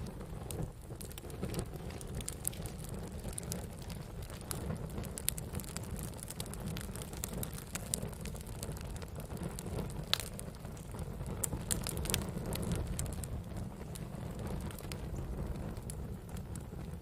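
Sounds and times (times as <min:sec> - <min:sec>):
fire crackles and pops: 0:00.0 - 0:17.0
fire low rumble: 0:00.0 - 0:17.0.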